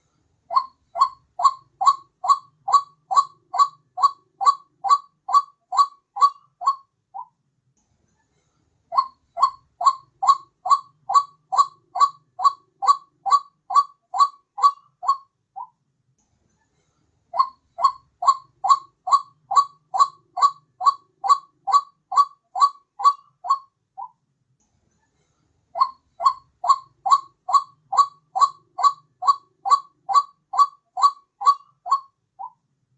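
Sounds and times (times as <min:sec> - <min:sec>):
waterhen calls: 0:00.5 - 0:07.3, 0:08.9 - 0:15.7, 0:17.4 - 0:24.1, 0:25.8 - 0:32.6.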